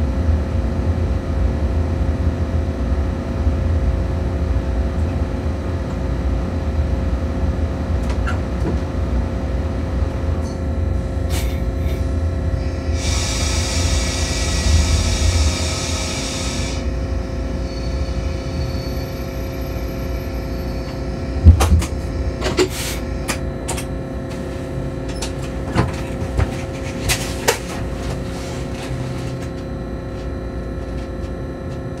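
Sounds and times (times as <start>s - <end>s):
train electrical hum and rumble: 0.0s - 32.0s.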